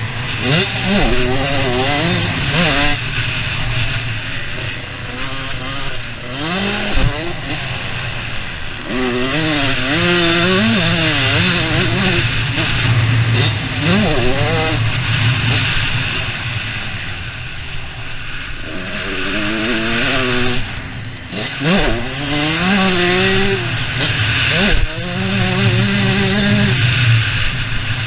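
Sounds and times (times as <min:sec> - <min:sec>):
motocross engine revving: 0:00.0 - 0:28.0.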